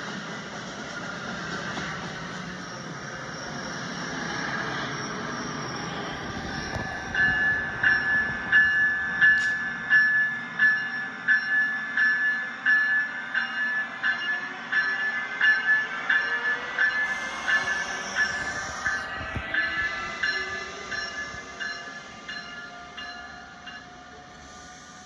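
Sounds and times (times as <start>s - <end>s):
train rushing: 0.0s - 25.0s
train bell ringing: 1.7s - 25.0s.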